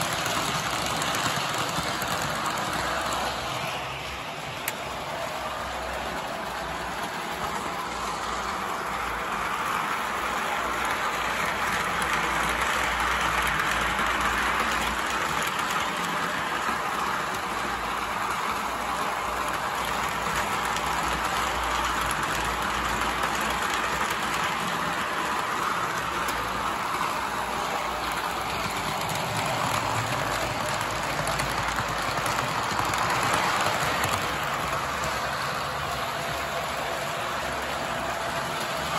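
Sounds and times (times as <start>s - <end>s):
model train rumbling on track: 0.0s - 38.9s.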